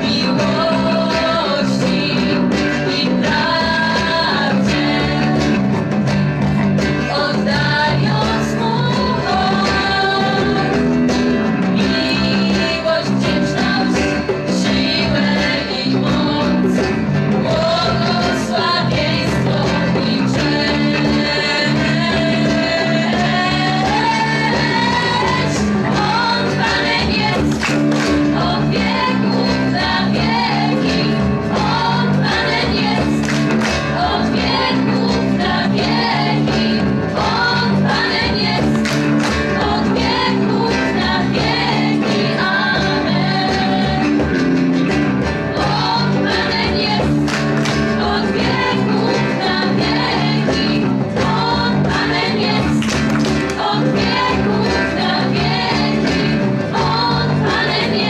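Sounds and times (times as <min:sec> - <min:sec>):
women singing together: 0:00.0 - 0:05.9, 0:06.7 - 0:44.5, 0:45.3 - 0:58.0
guitar accompaniment: 0:00.0 - 0:58.0.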